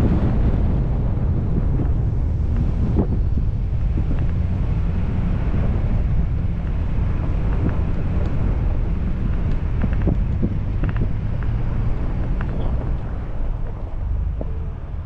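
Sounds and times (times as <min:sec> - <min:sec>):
truck engine rumble: 0:00.0 - 0:15.0
wind buffeting microphone: 0:00.0 - 0:15.0.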